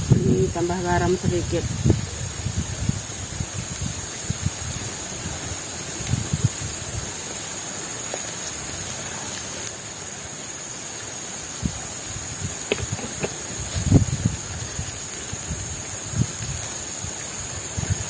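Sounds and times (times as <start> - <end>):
river water flowing: 1.1 - 18.0.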